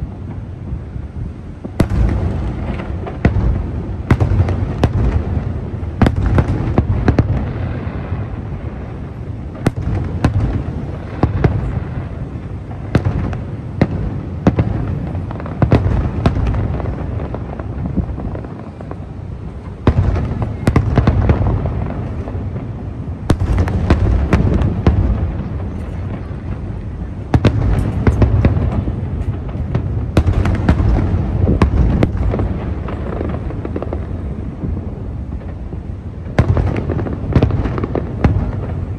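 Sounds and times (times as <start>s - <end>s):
fireworks bursting in sharp bangs: 0.0s - 38.9s.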